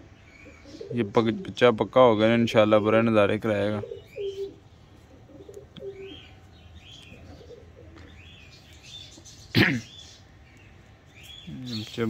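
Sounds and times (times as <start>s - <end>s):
pigeons cooing: 0.0s - 10.3s.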